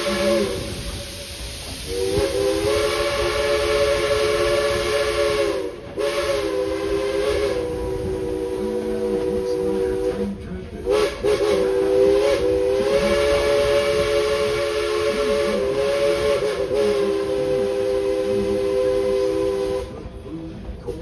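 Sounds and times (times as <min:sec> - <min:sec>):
steam whistle blast: 0:00.0 - 0:10.2, 0:10.9 - 0:20.0
steam hissing: 0:00.0 - 0:21.0.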